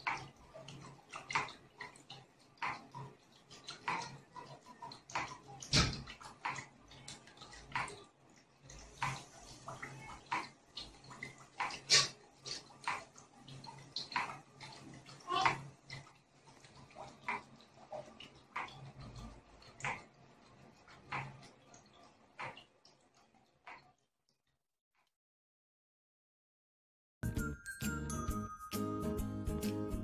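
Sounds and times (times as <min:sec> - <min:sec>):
water splashing and dripping: 0:00.0 - 0:24.1.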